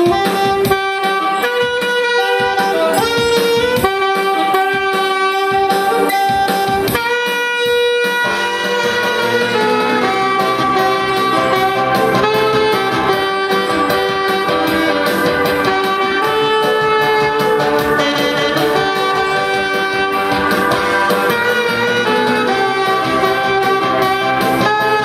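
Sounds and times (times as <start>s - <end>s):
backing track with steady beat: 0.0s - 25.0s
saxophone melody: 0.0s - 25.0s.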